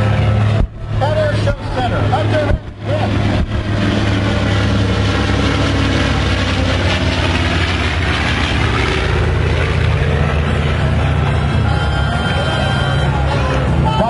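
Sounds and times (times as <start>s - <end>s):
piston aircraft engines droning: 0.0s - 14.0s
rushing air of passing planes: 0.0s - 14.0s.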